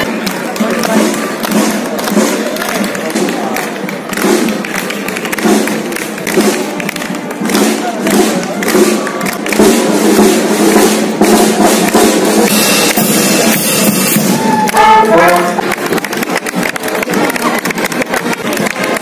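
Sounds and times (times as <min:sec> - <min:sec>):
steady drum beat: 0:00.0 - 0:16.7
marching brass band: 0:00.0 - 0:19.0.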